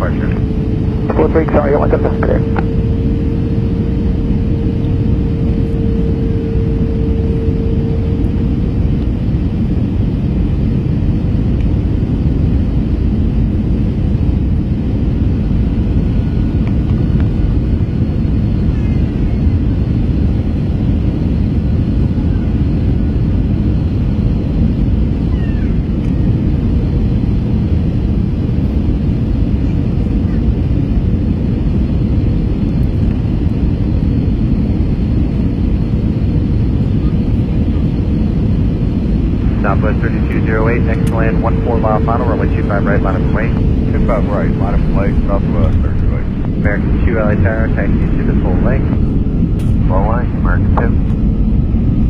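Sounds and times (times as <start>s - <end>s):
airplane cabin engine rumble: 0.0s - 52.0s
faint steady hum: 0.0s - 52.0s.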